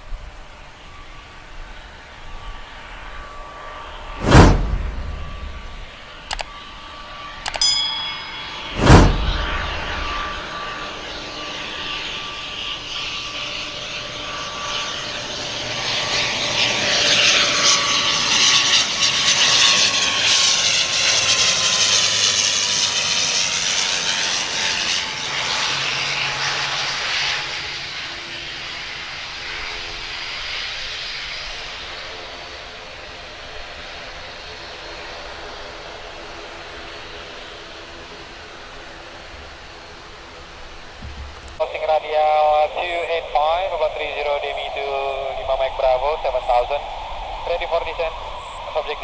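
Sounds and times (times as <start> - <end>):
turboprop plane flying low: 0.0 - 49.0.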